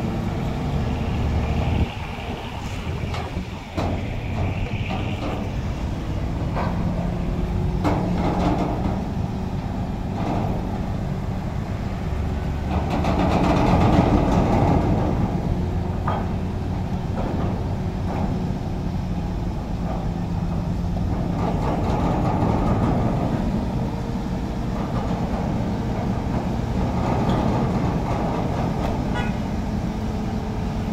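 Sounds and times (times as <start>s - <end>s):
heavy diesel engines running: 0.0s - 30.9s.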